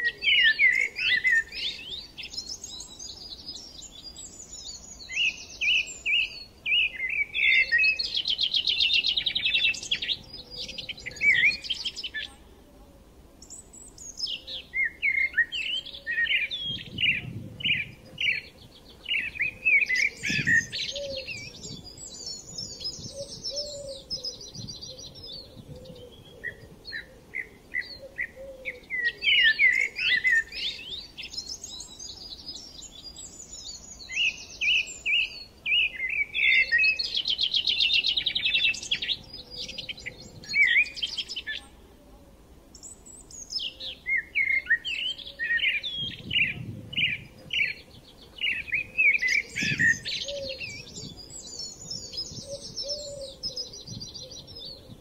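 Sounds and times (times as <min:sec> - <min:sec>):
birds chirping and singing: 0:00.0 - 0:12.5, 0:13.4 - 0:41.8, 0:42.7 - 0:55.0.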